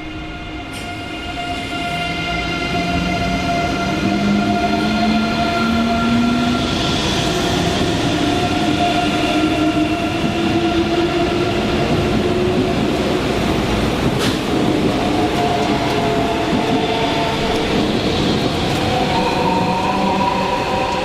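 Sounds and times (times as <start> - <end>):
train wheels rumbling: 0.7 - 21.0.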